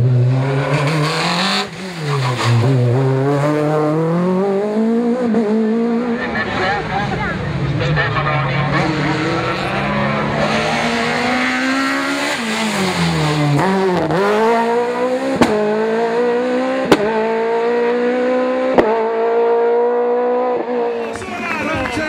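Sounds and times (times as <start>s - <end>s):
rally car engine revving: 0.0s - 21.2s.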